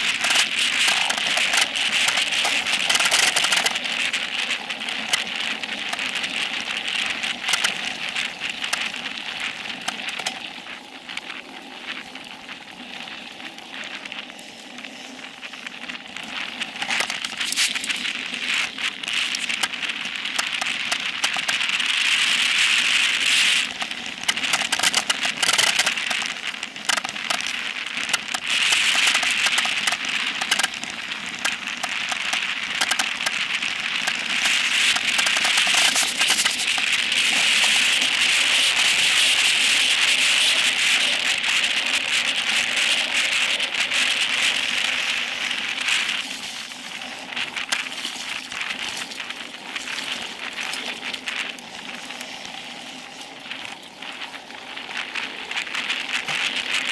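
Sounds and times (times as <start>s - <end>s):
bike clicking and rattling: 0.0s - 56.9s
bike tyres on dirt trail: 0.0s - 56.9s
grit and stones crackling: 0.0s - 56.9s.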